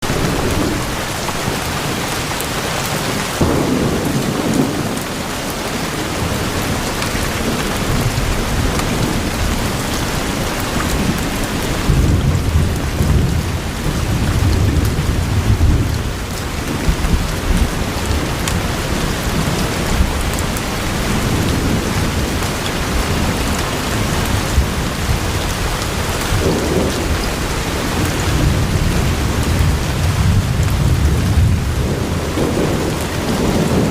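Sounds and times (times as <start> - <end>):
rain falling: 0.0 - 33.9
rolling thunder: 0.0 - 33.9.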